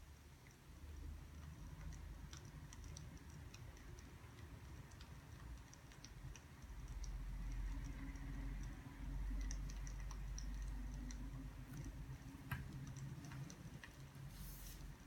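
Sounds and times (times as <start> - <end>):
low steady rumble: 0.0 - 15.0
faint small ticks and clicks: 0.2 - 14.3.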